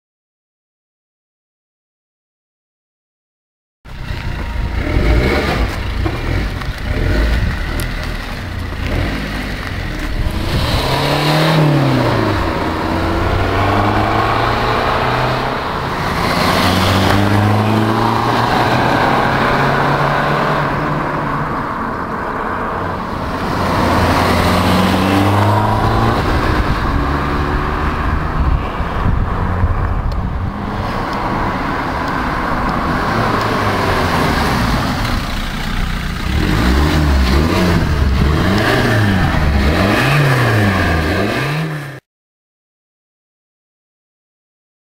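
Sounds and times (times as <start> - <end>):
diesel engine revving: 3.9 - 42.0.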